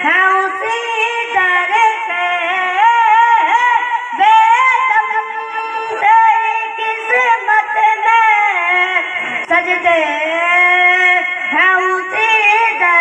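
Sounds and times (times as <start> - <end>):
boy singing into a microphone: 0.0 - 13.0.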